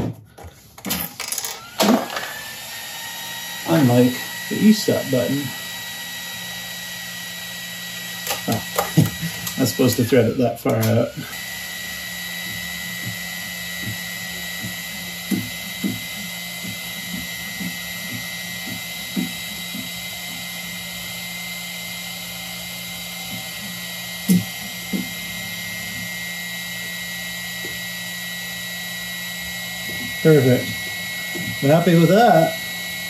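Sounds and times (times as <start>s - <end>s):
laser engraver whine: 0.8s - 33.0s.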